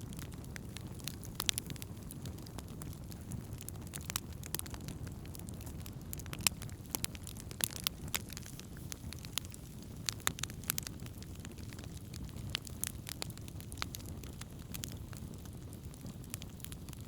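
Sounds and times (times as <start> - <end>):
campfire burning: 0.0 - 17.0
fire crackling and popping: 0.0 - 17.0.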